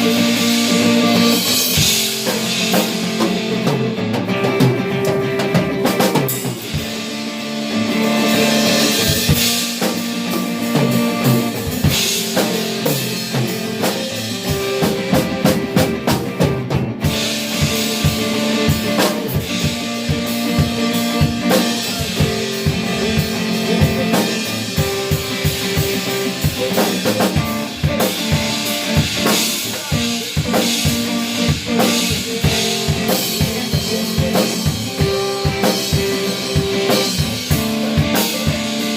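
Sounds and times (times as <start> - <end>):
held guitar or keyboard notes: 0.0 - 38.9
live band drum groove: 0.0 - 38.9.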